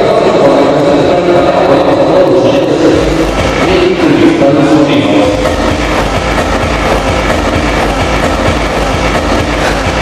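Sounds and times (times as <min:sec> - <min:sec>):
loud distorted dance music: 0:00.0 - 0:10.0.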